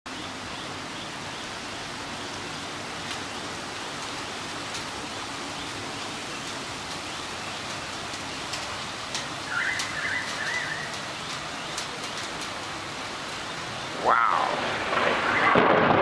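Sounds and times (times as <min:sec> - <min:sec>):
steady rain falling: 0:00.1 - 0:16.0.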